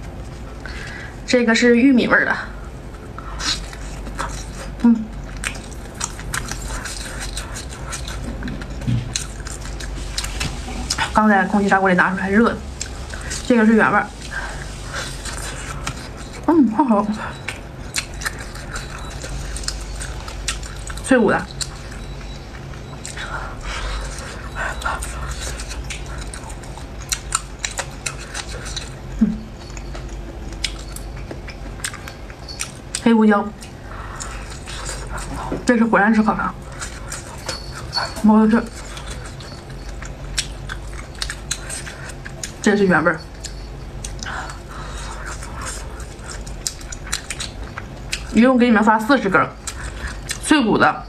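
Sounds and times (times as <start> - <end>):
low hum: 0.0 - 51.0
chewing food: 2.9 - 11.8, 12.7 - 50.6.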